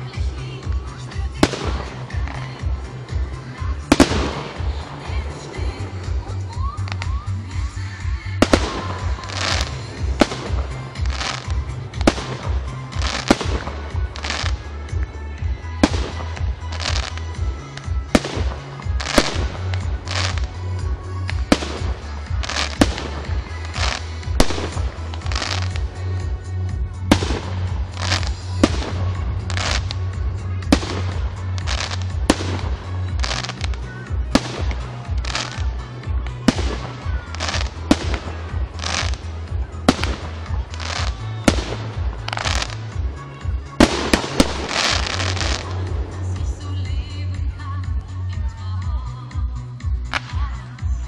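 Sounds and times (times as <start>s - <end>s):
fireworks bangs with crackle: 0.0s - 46.7s
music with deep bass: 0.0s - 51.0s.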